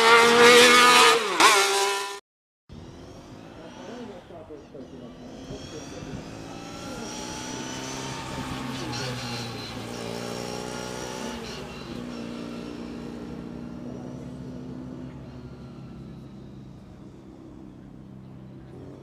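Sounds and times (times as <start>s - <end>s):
car engine passing by: 2.7s - 19.0s.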